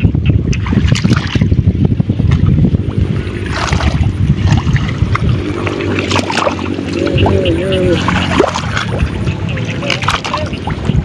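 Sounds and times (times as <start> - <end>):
muddy water sloshing: 0.5 - 11.0.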